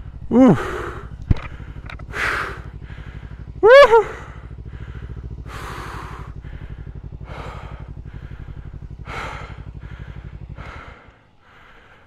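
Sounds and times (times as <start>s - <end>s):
motorcycle engine idling: 0.0s - 12.0s
person breathing out hard: 0.3s - 12.0s.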